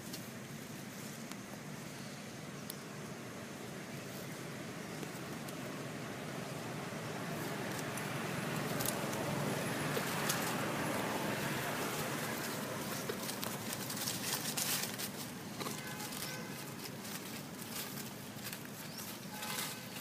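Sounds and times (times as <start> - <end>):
crackles and rustles: 0.0 - 20.0.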